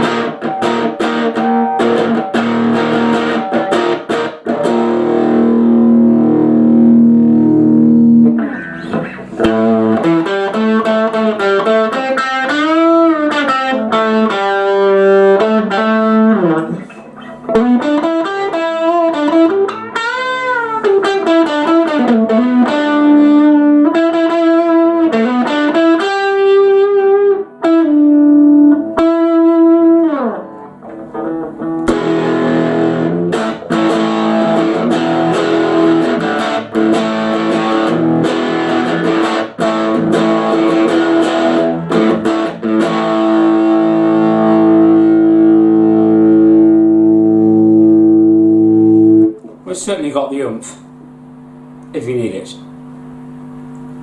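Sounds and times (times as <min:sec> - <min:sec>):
electric guitar lead with bends: 0:00.0 - 0:49.6
electric guitar chords: 0:00.0 - 0:51.9, 0:52.6 - 0:54.0.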